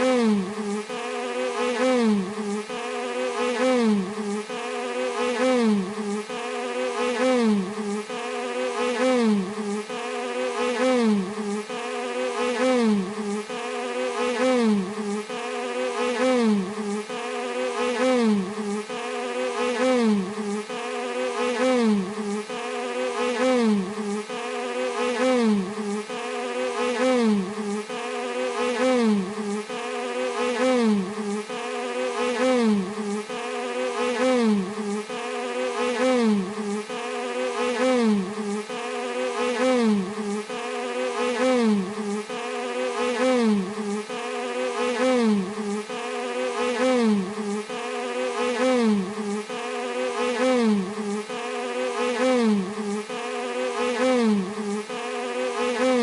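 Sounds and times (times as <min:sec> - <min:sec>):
bee buzzing: 0:00.0 - 0:56.0.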